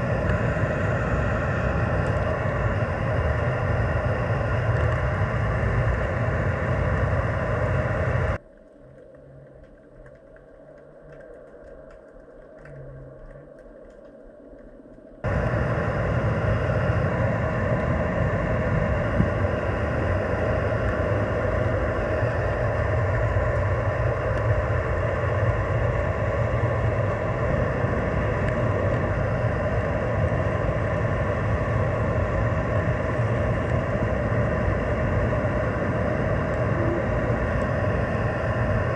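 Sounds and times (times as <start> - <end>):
droning hum: 0.0 - 38.9
underwater rumble: 0.0 - 38.9.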